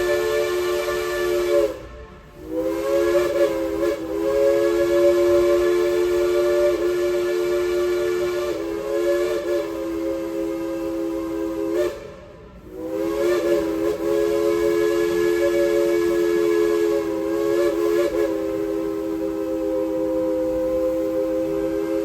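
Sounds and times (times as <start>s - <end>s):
steam locomotive whistle chord: 0.0s - 22.0s.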